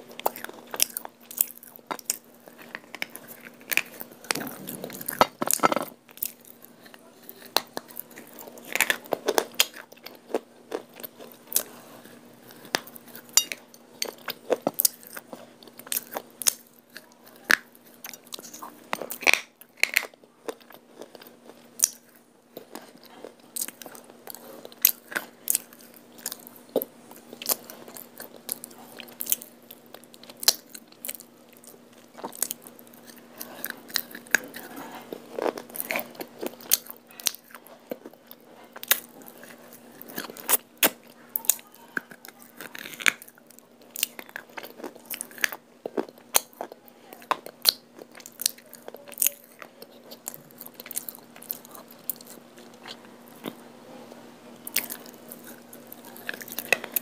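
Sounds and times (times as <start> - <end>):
crunching and chewing clay: 0.0 - 57.0.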